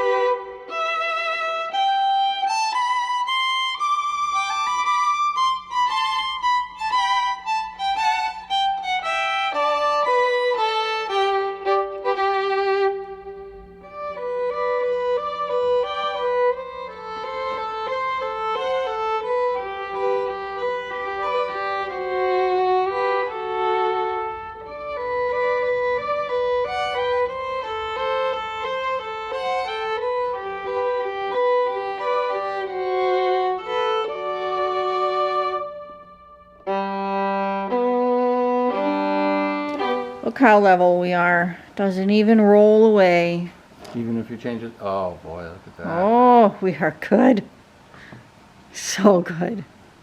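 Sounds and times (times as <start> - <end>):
upbeat fiddle tune: 0.0 - 41.3.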